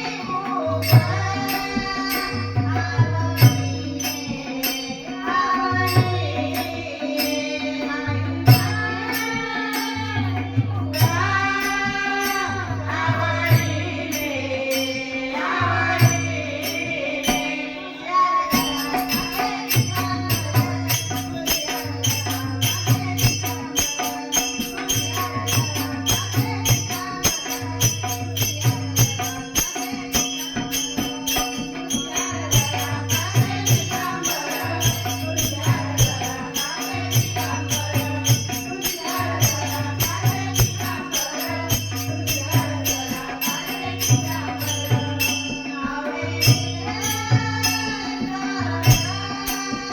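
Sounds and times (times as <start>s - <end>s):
jingling hand percussion: 0.0s - 49.9s
mridang drumming: 0.0s - 49.9s
woman singing: 0.0s - 49.9s.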